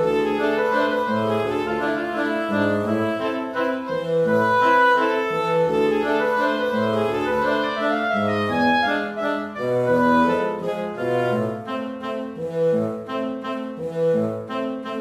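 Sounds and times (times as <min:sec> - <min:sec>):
instrumental music with bass line: 0:00.0 - 0:15.0.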